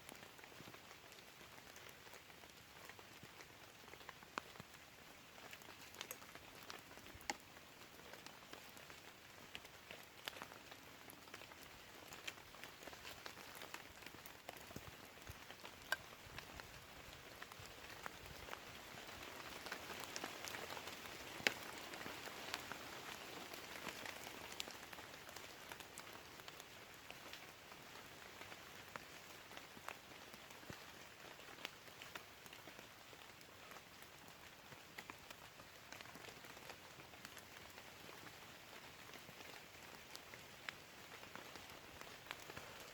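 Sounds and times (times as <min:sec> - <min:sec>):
raindrops ticking: 0:00.0 - 0:42.9.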